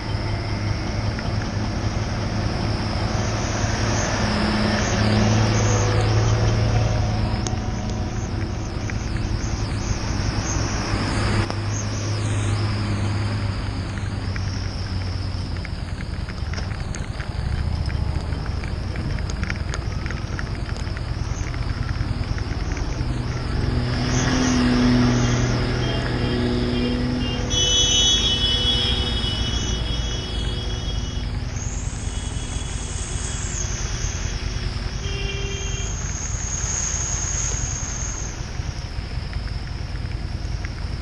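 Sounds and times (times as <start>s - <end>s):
heavy lorry engines: 0.0s - 41.0s
motorcycle engine riding slowly: 0.0s - 41.0s
wind and rain hiss: 0.0s - 41.0s.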